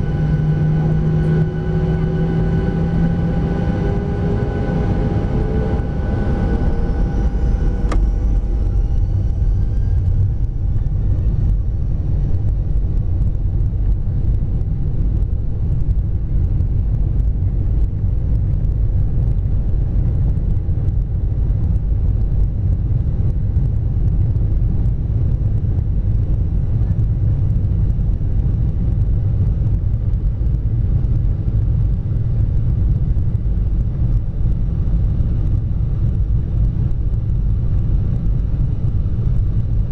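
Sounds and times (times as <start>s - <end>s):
faint rising engine whine: 0.0s - 39.9s
jet engines rumbling at takeoff: 0.0s - 39.9s.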